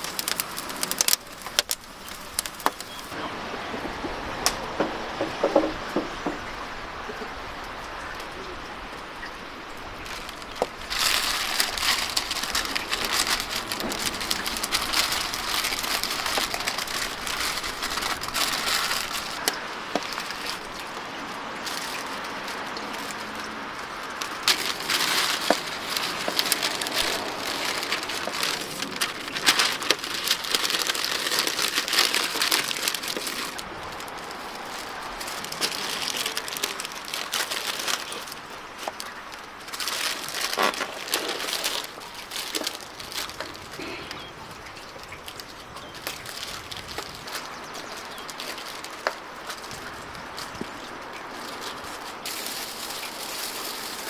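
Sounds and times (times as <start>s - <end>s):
stiff paper crinkling: 0.0s - 3.2s, 9.8s - 54.0s.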